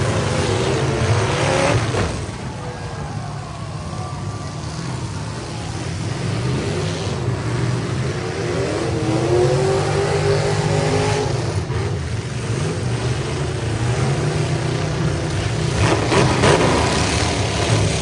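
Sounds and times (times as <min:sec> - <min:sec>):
truck engines revving: 0:00.0 - 0:18.0.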